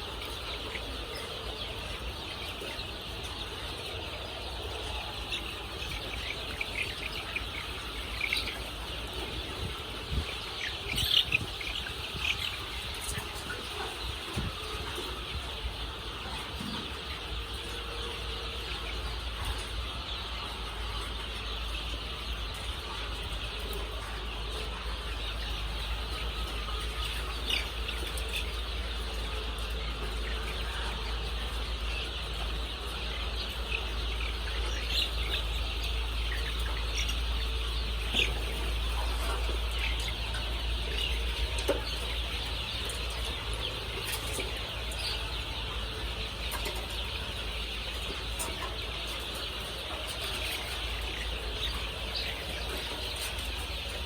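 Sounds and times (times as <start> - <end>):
chickens cheeping and clucking: 0.0 - 54.0.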